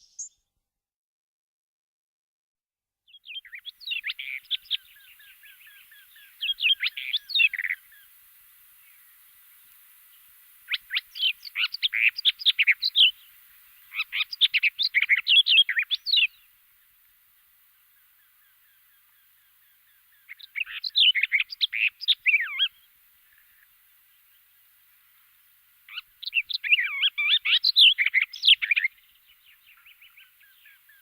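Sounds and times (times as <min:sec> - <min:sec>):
small birds chirping: 0:00.0 - 0:00.5, 0:03.1 - 0:31.0.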